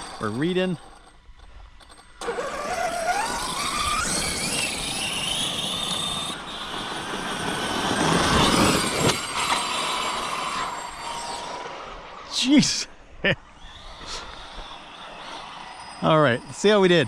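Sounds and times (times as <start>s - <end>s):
electric motor whine rising: 0.0s - 17.0s.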